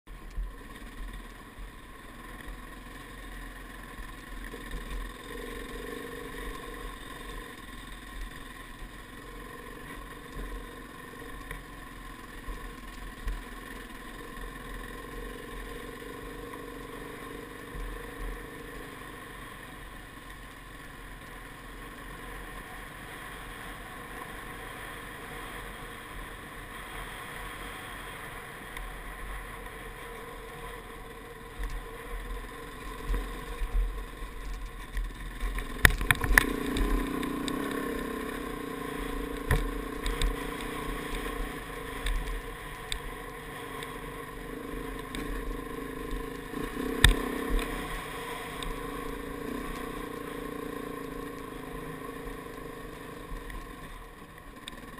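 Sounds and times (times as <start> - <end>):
motorcycle engine under load: 0.1 - 54.9.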